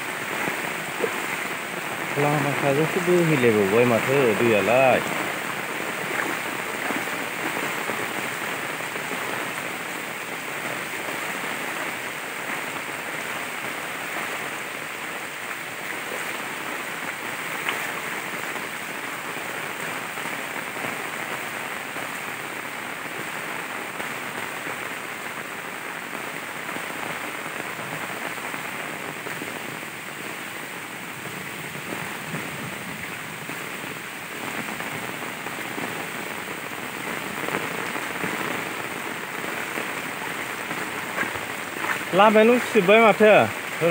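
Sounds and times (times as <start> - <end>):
rain on grass and water: 0.0 - 43.9.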